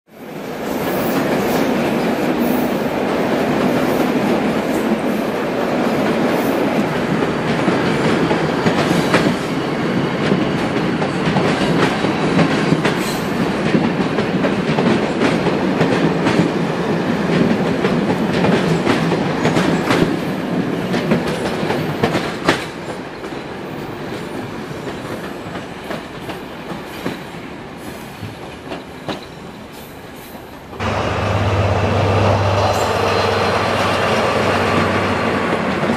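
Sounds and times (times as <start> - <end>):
railway wagons rumbling past: 0.2 - 35.9.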